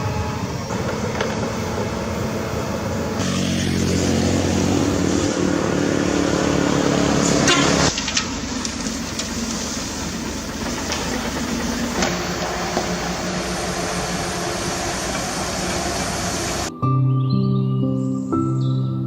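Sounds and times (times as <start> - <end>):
steady hum: 0.0 - 16.7.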